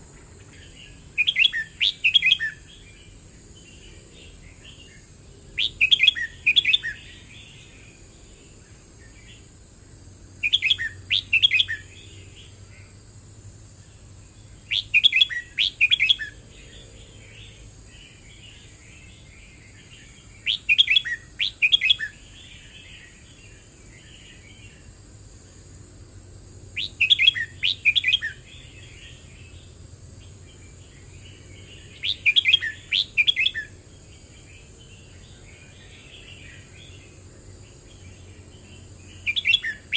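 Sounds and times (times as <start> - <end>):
quiet bird twittering: 0.0 - 25.7, 26.6 - 39.9
bird song phrases: 0.0 - 39.9
steady high hiss: 0.0 - 39.9.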